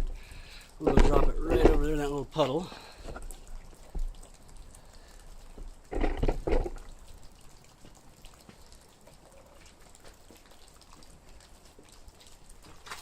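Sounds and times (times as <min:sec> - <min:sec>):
water dripping from roof: 0:00.0 - 0:13.0.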